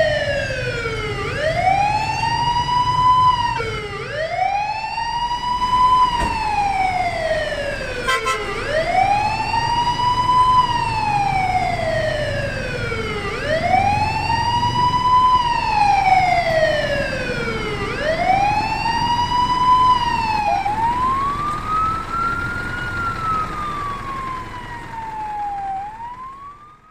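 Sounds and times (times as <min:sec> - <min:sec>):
engine and road rumble: 0:00.0 - 0:26.9
fire truck siren wailing: 0:00.0 - 0:26.9.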